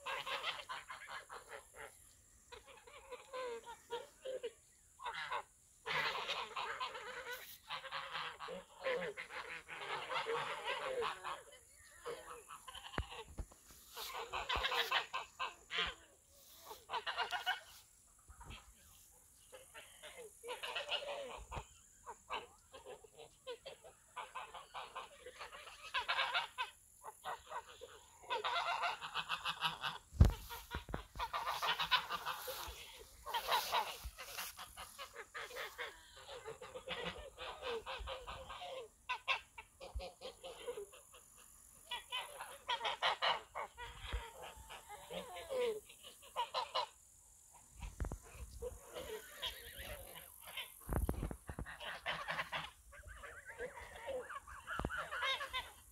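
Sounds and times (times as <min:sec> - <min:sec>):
geese honking: 0:00.0 - 0:55.9.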